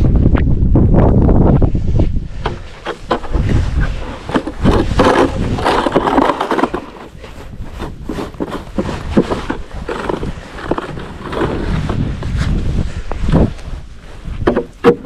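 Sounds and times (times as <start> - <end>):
irregular scraping and knocking: 2.0 - 12.6, 13.2 - 15.0.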